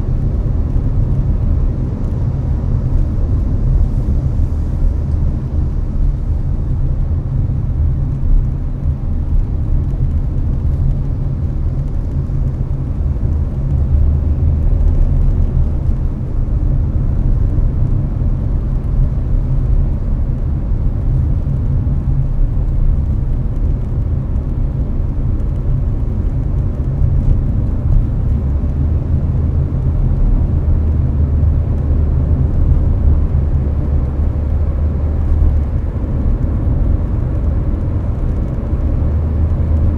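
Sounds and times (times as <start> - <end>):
air conditioner fan noise: 0.0 - 39.9
car road and engine rumble: 0.0 - 39.9.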